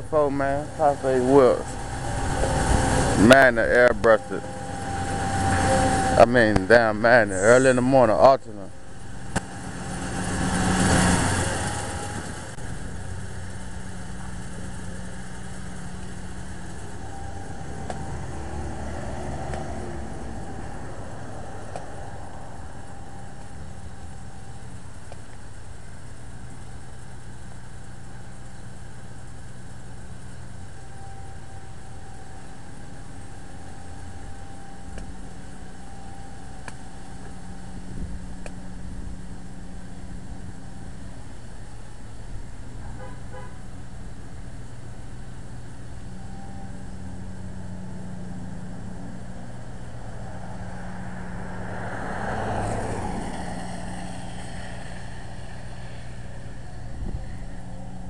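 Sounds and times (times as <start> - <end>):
car engine idling: 0.0 - 58.0
motor vehicle hum: 0.0 - 58.0.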